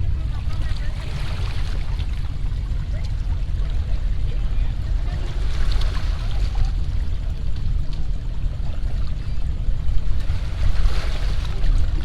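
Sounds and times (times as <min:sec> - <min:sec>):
steady low rumbling: 0:00.0 - 0:12.0.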